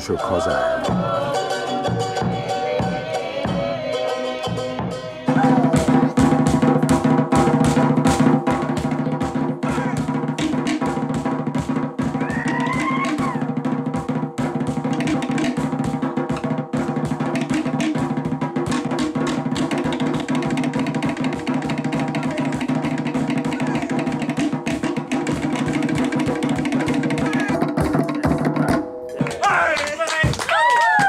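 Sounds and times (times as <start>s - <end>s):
fast ensemble drumming: 4.5s - 31.0s.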